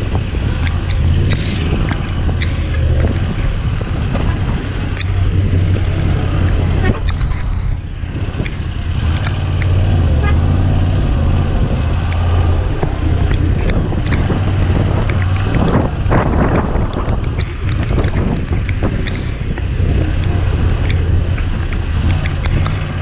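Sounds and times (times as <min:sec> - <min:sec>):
sharp ticks: 0:00.0 - 0:07.5, 0:08.4 - 0:23.0
motorcycle engine running: 0:00.0 - 0:23.0
wind and road noise: 0:00.0 - 0:23.0.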